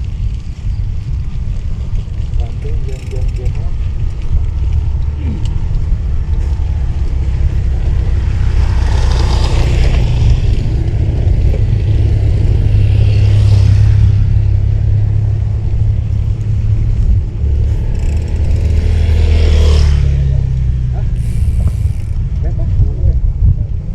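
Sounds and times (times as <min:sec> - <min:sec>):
road traffic passing: 0:00.0 - 0:23.9
wind rumbling on microphone: 0:00.0 - 0:23.9.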